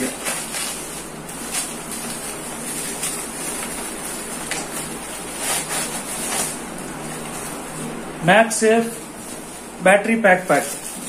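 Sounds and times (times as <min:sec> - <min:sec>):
packaging rustling and crinkling: 0:00.0 - 0:08.0, 0:08.6 - 0:11.0
steady background hiss: 0:00.0 - 0:11.0.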